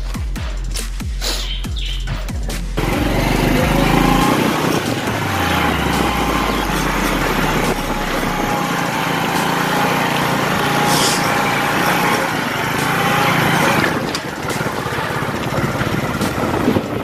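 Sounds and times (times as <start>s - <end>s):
background music: 0.0s - 17.0s
motorcycle engine running: 1.6s - 17.0s.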